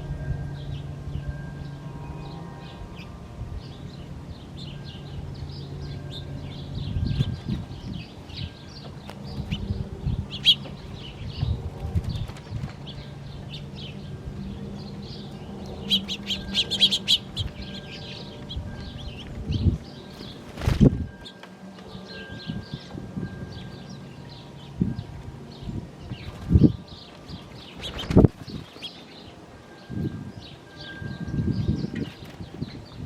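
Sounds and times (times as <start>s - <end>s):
low steady hum: 0.0s - 33.0s
small birds chirping: 0.6s - 33.0s.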